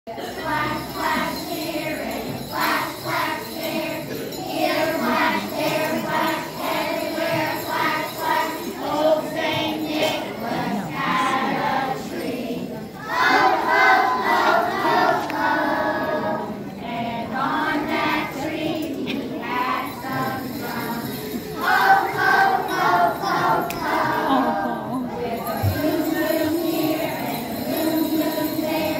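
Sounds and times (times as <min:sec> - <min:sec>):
children singing together: 0:00.1 - 0:28.9
small bells jingling in rhythm: 0:00.1 - 0:28.9.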